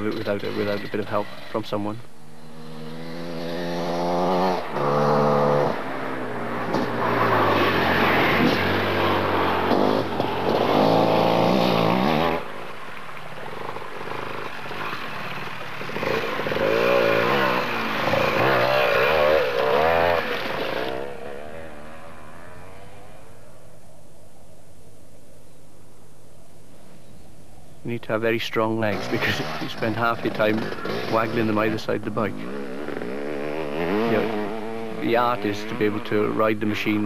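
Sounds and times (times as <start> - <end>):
motorcycle engine revving: 0.0 - 23.5, 28.8 - 37.0.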